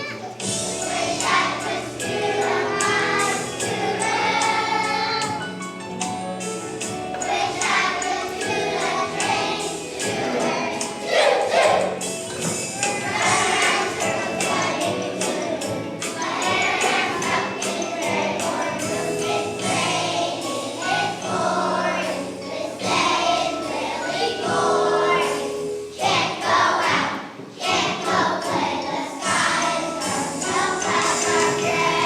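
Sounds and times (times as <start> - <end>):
children singing: 0.0 - 5.6, 7.1 - 32.0
jingling percussion: 0.0 - 25.5, 27.7 - 32.0
instrumental accompaniment: 0.0 - 32.0.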